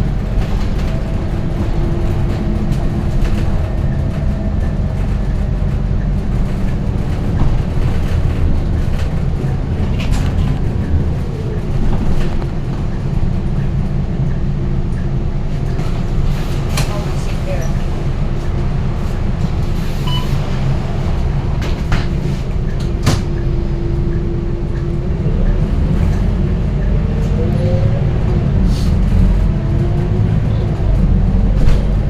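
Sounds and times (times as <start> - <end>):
bus diesel engine rumble: 0.0 - 32.0.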